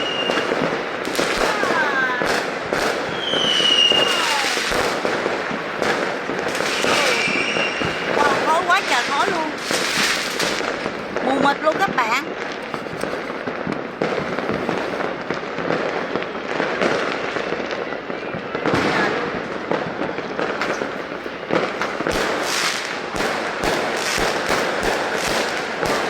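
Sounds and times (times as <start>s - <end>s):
fireworks crackling: 0.0s - 26.0s
sharp loud firework pops: 0.0s - 26.0s.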